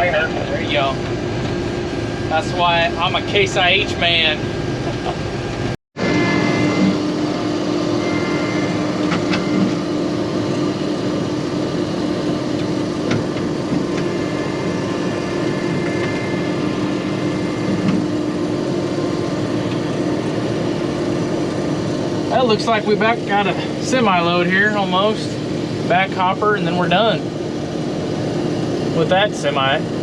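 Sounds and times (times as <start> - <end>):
combine harvester droning: 0.0 - 30.0.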